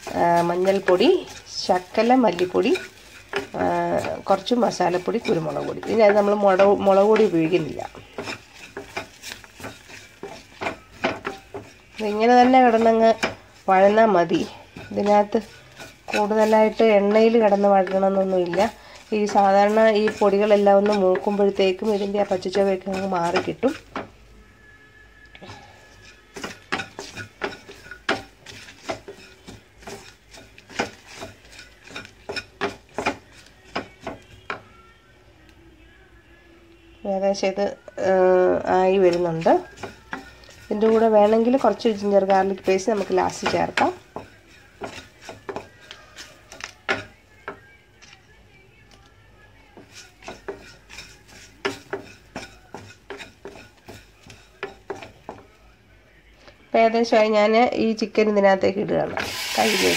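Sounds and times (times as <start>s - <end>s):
spatula scraping a pan: 0.0s - 24.3s, 25.4s - 34.8s, 37.4s - 48.0s, 49.6s - 55.6s, 59.2s - 59.9s.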